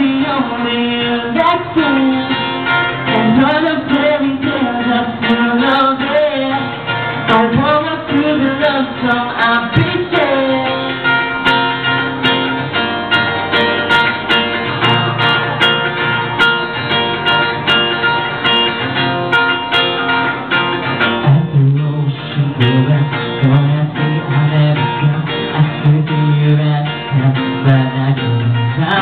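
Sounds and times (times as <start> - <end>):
guitar-led instrumental music: 0.0 - 29.0.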